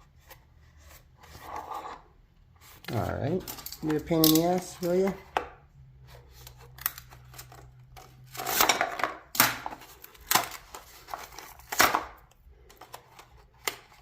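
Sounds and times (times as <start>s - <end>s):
packaging rustling and scraping: 0.0s - 5.2s, 6.0s - 14.0s.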